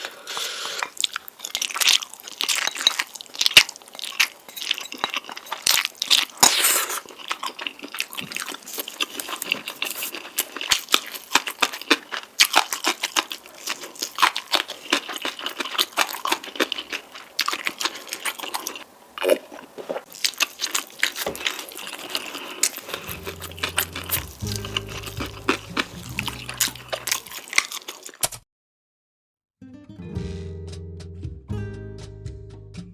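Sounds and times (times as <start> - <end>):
chewing and crunchy bites: 0.0 - 28.4.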